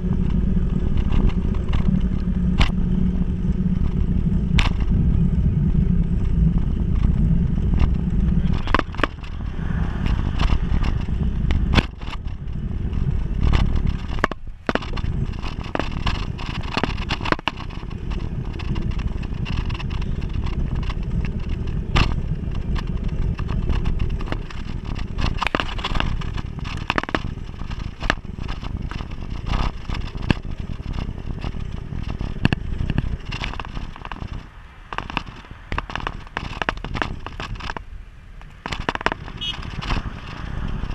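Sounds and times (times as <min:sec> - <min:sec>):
road rumble: 0:00.0 - 0:40.9
wind on microphone: 0:00.0 - 0:40.9.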